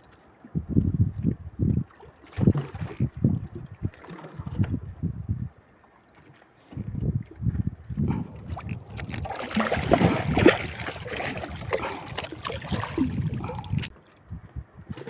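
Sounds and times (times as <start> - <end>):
water splashing beside boat: 0.0 - 5.0, 5.6 - 13.9
wind buffeting microphone: 0.5 - 5.6, 6.7 - 15.0.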